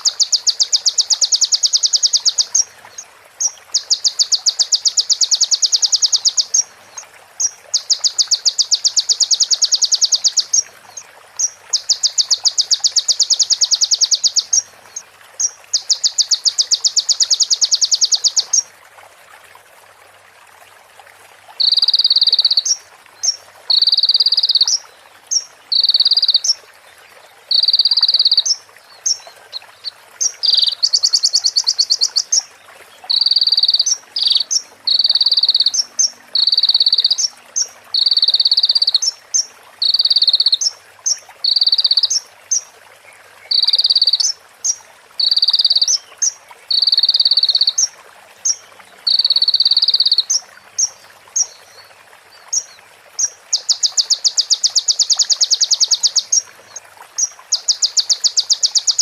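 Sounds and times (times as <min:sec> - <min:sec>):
bird ticking trills: 0:00.0 - 0:06.8, 0:07.4 - 0:10.7, 0:11.4 - 0:18.7, 0:21.6 - 0:26.6, 0:27.5 - 0:42.7, 0:43.4 - 0:47.9, 0:48.5 - 0:51.6, 0:52.5 - 0:56.5, 0:57.2 - 0:59.0.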